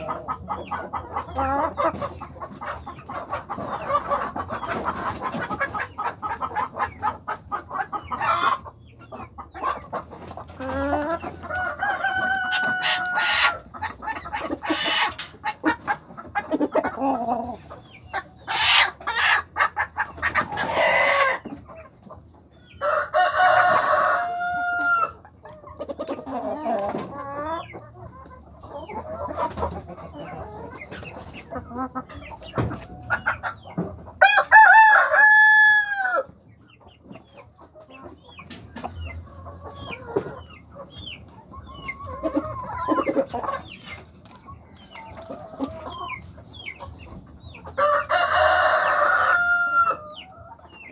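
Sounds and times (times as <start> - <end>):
chickens clucking: 0.0 - 50.9
chickens long drawn-out calls: 0.0 - 50.9.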